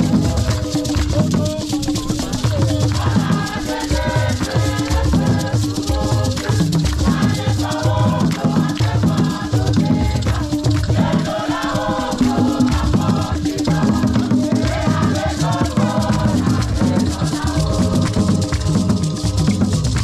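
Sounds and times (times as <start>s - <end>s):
fast hand drumming: 0.0s - 20.0s
voices singing together: 0.0s - 20.0s.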